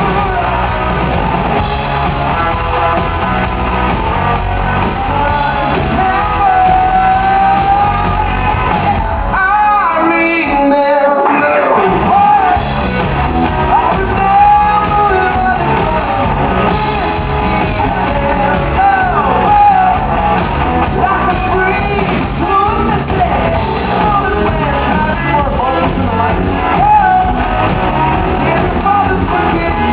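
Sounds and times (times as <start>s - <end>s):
person singing and shouting: 0.0s - 1.6s, 4.2s - 12.8s, 13.5s - 29.9s
live rock band playing: 0.0s - 29.9s.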